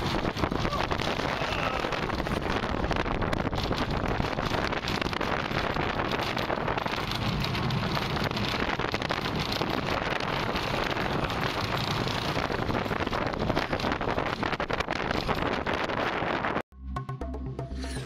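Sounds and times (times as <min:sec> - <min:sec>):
roller coaster rattling on track: 0:00.0 - 0:16.6
wind rushing over microphone: 0:00.0 - 0:16.6.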